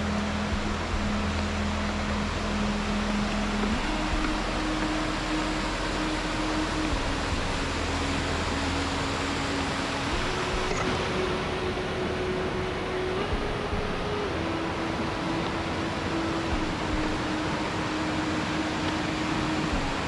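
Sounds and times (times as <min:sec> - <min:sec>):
river and waterfall rushing: 0:00.0 - 0:20.0.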